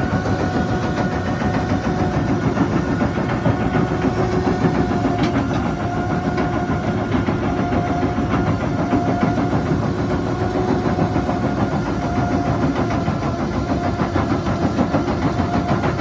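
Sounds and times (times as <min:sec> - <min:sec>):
excavator engine and hydraulic whine: 0:00.0 - 0:16.0.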